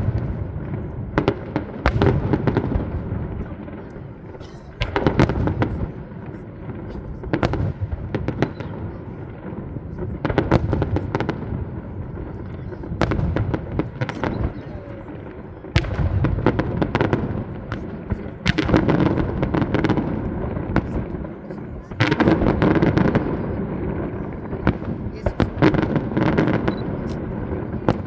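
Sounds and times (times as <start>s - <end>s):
fireworks rumbling bangs: 0.0s - 28.0s
fireworks sharp cracks: 0.0s - 28.0s.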